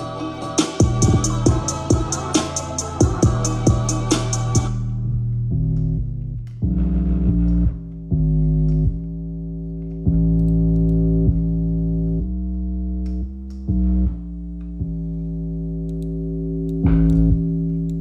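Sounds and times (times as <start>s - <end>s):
deep bass: 0.0s - 18.0s
synthesizer chords: 0.0s - 18.0s.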